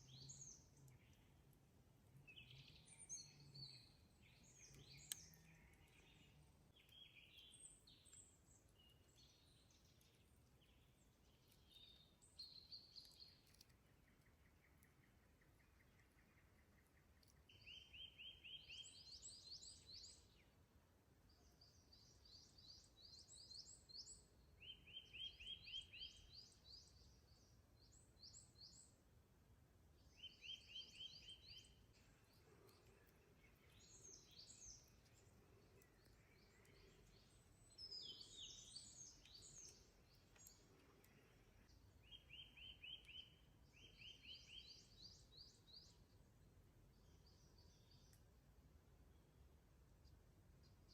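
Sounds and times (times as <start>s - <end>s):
faint background hiss: 0.0s - 50.9s.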